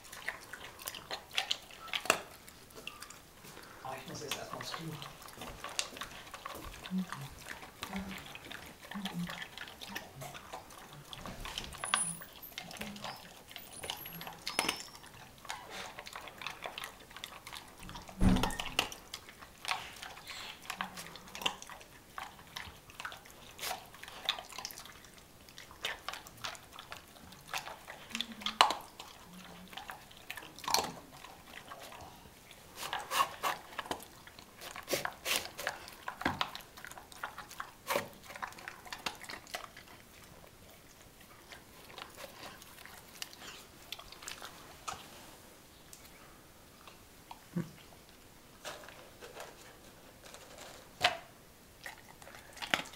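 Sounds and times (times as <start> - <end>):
dog licking wetly: 0.0 - 45.1
dog crunching kibble in bowl: 3.8 - 45.0, 48.6 - 52.9.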